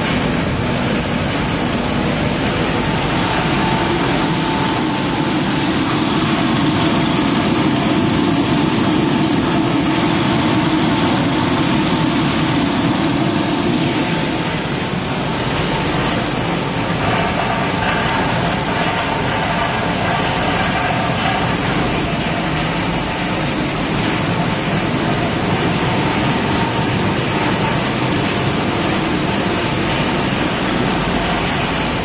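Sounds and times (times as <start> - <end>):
loud machinery din: 0.0 - 32.0.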